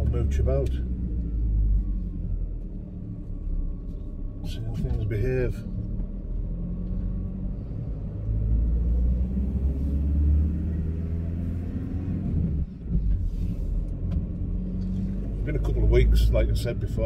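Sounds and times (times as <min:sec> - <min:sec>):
road rumble: 0:00.0 - 0:17.0
van diesel engine: 0:00.0 - 0:17.0.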